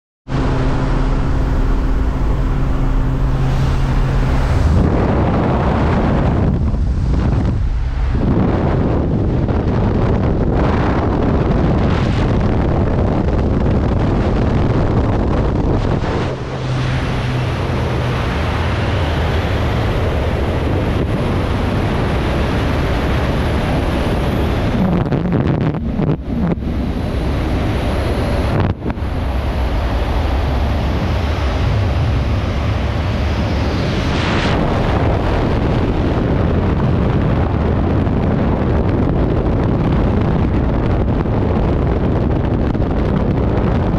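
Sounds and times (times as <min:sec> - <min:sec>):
wind rushing over microphone: 0:00.3 - 0:43.9.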